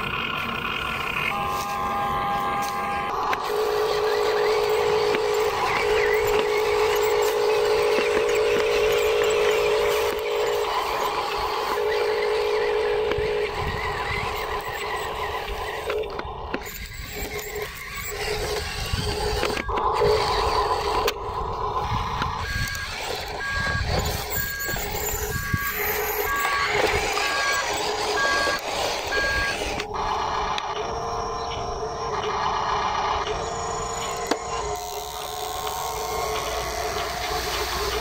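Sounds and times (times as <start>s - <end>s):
reversing beeper: 0.0s - 34.9s
electric motor whining: 0.0s - 38.0s.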